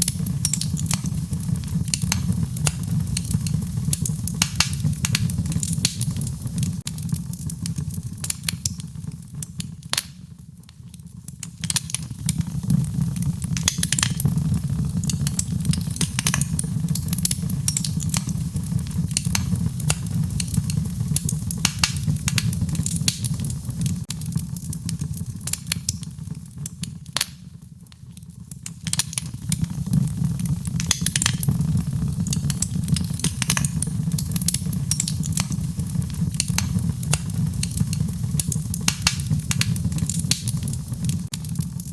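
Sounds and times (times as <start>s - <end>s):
fire flames rumbling: 0.0s - 27.2s, 28.8s - 41.9s
wood fire popping and snapping: 0.0s - 41.9s.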